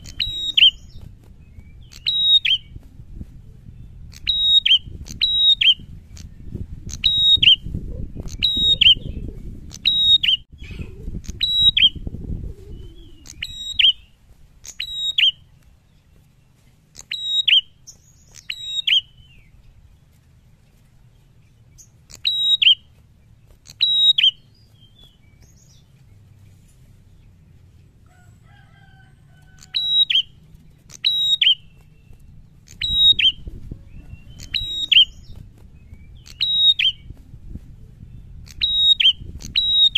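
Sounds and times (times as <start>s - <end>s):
wings fluttering: 0.0s - 39.9s.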